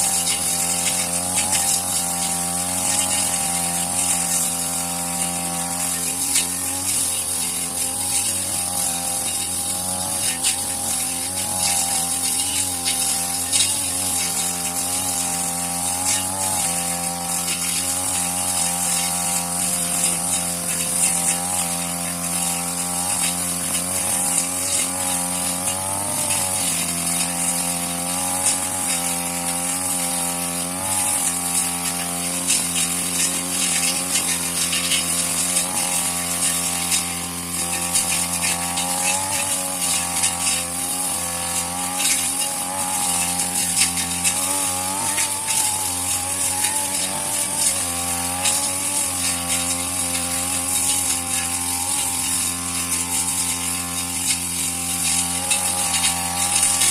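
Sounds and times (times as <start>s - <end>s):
brush cutter engine running: 0.0s - 56.9s.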